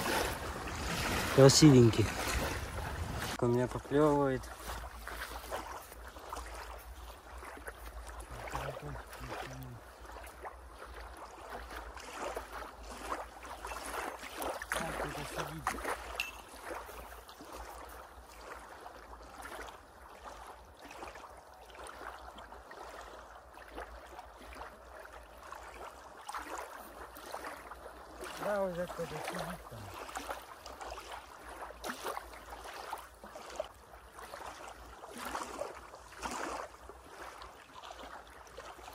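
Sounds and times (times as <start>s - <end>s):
waves lapping on shore: 0.0s - 38.9s.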